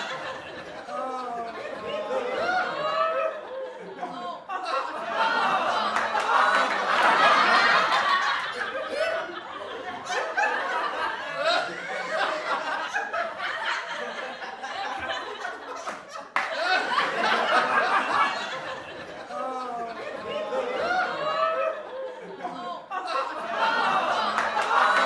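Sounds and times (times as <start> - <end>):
people chattering: 0.0 - 15.8, 16.5 - 25.0
group laughing: 0.0 - 25.0.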